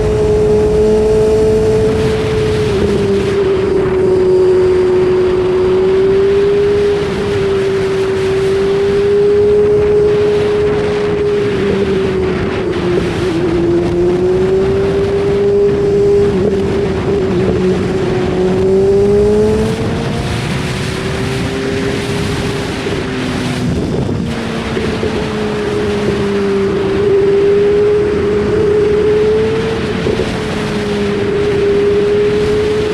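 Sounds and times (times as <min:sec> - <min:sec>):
motorcycle engine running: 0:00.0 - 0:32.9
wind noise: 0:00.0 - 0:32.9.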